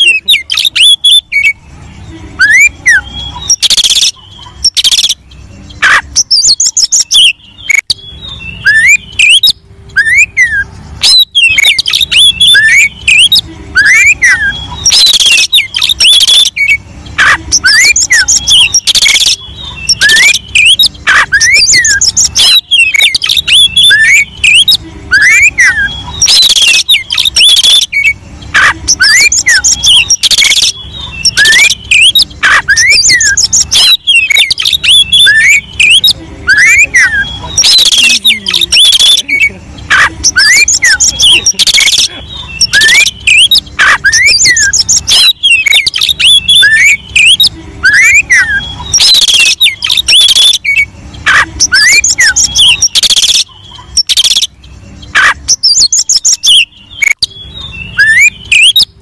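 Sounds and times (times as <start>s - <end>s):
bird singing: 0.0s - 59.0s
harsh raspy bird calls: 0.0s - 59.0s.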